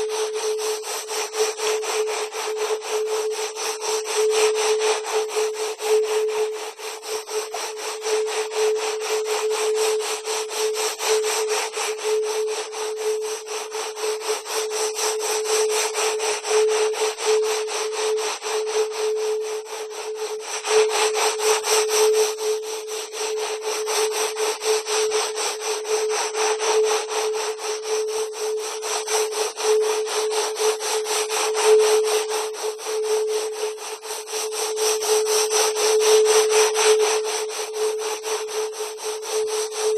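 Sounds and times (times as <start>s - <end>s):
steady mid-pitched tone: 0.0s - 39.9s.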